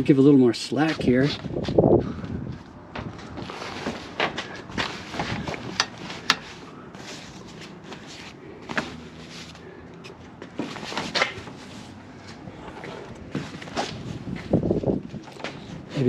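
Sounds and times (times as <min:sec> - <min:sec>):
straps and canvas rustling: 0:01.1 - 0:16.0.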